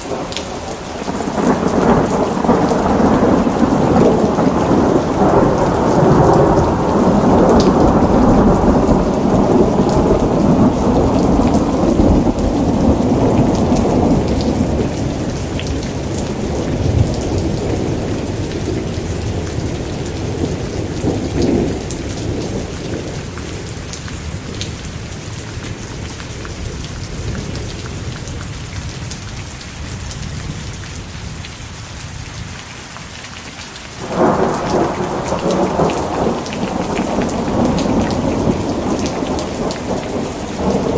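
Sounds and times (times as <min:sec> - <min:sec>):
rolling thunder: 0:00.0 - 0:28.2, 0:34.0 - 0:40.9
steady rain: 0:00.0 - 0:40.9.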